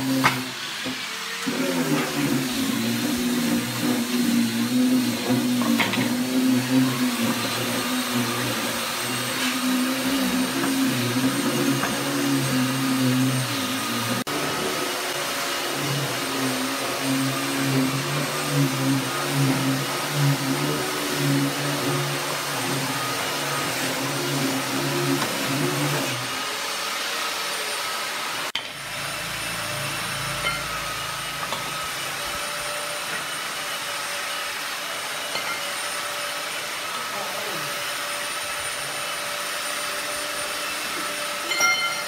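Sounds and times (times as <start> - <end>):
electric motor humming: 0.0 - 42.0.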